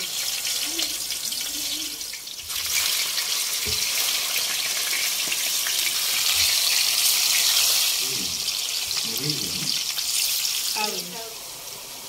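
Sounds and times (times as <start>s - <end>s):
plantain sizzling in oil: 0.0s - 12.0s.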